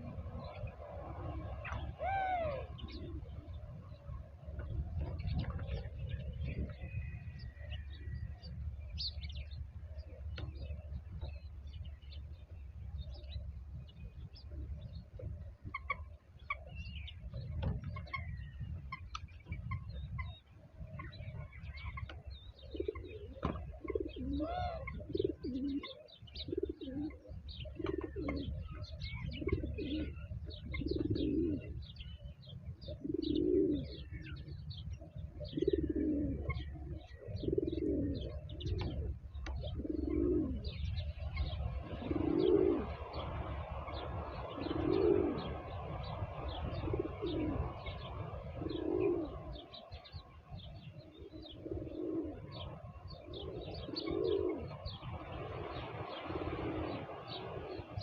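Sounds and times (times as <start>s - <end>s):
pigeons cooing: 0.0s - 12.0s, 19.4s - 58.0s
small birds chirping: 0.0s - 58.0s.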